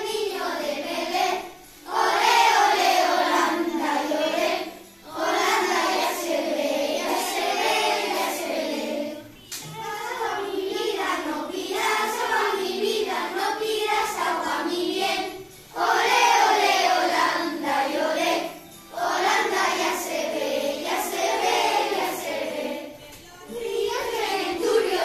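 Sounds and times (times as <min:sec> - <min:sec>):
children singing in unison: 0:00.0 - 0:25.0.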